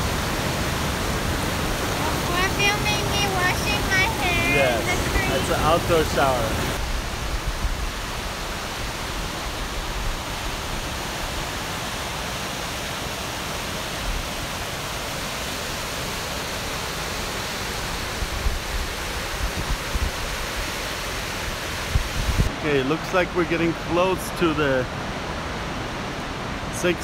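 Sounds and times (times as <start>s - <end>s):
river rapids rushing: 0.0s - 27.0s.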